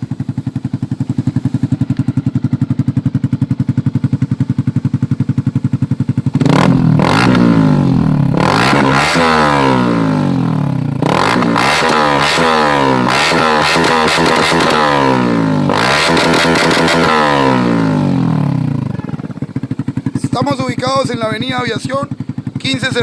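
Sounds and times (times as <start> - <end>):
exhaust cracks: 0.0 - 23.0
motorcycle engine revving: 0.0 - 23.0.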